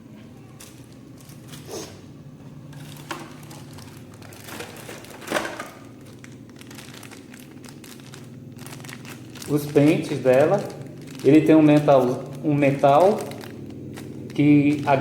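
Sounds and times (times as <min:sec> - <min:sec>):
low steady hum: 0:00.0 - 0:15.0
packaging crinkling and rustling: 0:00.5 - 0:01.7, 0:02.7 - 0:15.0.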